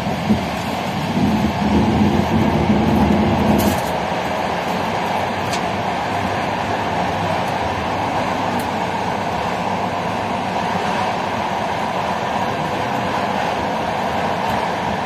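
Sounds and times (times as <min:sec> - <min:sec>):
train rolling rumble and rail noise: 0:00.0 - 0:15.0.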